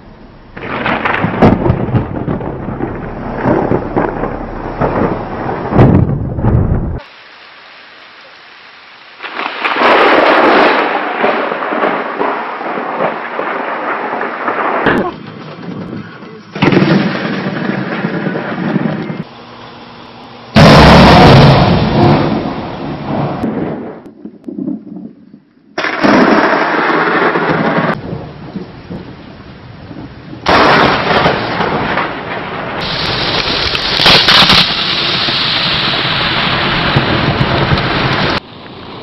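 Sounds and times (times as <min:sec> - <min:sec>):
thunder cracking and rumbling: 0:00.5 - 0:07.1, 0:09.2 - 0:19.3, 0:20.6 - 0:39.0.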